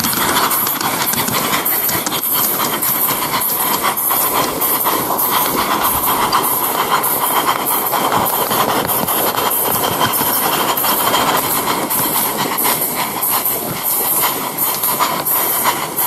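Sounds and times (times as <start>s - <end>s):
constant steam hiss: 0.0s - 16.0s
steam exhaust chuffing: 0.0s - 16.0s
wheels clicking on track: 0.0s - 16.0s.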